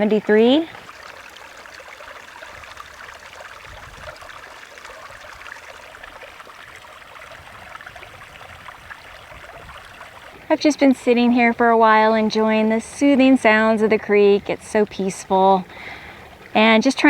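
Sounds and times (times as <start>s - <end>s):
creek babbling over rocks: 0.0s - 17.0s.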